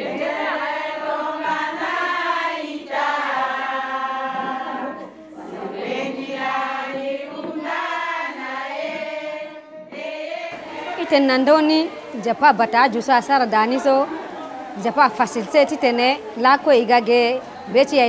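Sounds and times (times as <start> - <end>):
women singing together: 0.0 - 18.0.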